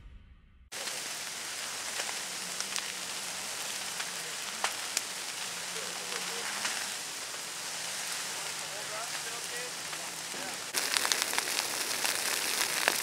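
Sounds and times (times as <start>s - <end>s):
fire crackling and popping: 0.7s - 13.0s
roar of burning brush: 0.7s - 13.0s.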